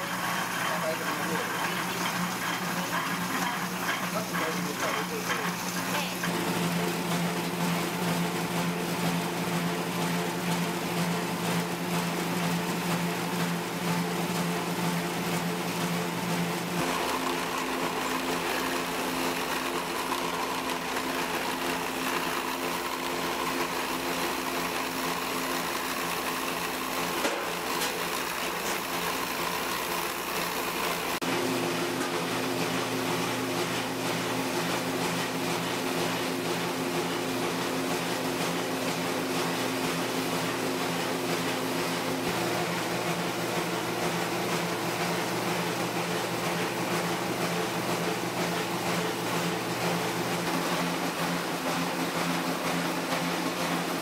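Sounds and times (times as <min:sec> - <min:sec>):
electric dough mixer humming: 0:00.0 - 0:54.0.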